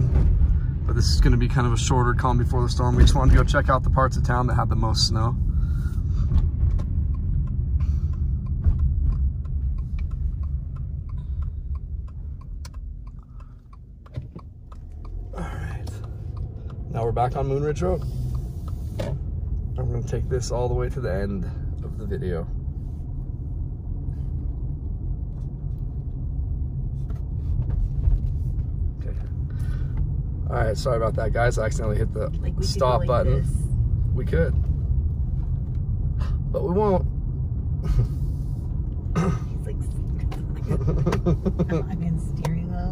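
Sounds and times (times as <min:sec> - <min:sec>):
car road and engine rumble: 0:00.0 - 0:42.9
turn signal ticking: 0:00.4 - 0:37.8, 0:38.7 - 0:42.9.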